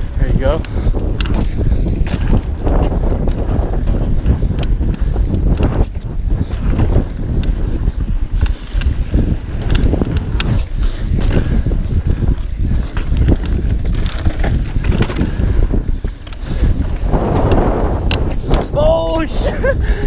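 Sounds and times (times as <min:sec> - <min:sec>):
bike knocks and rattles: 0:00.0 - 0:20.0
wind buffeting microphone: 0:00.0 - 0:20.0.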